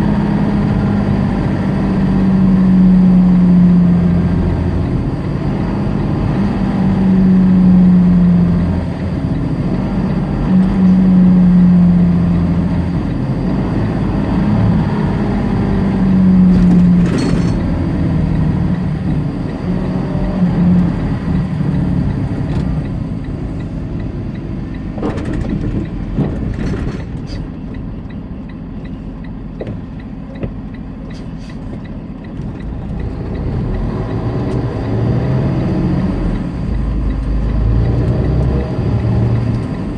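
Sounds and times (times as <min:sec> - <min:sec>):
diesel engine hum: 0:00.0 - 0:39.9
road noise: 0:00.0 - 0:39.9.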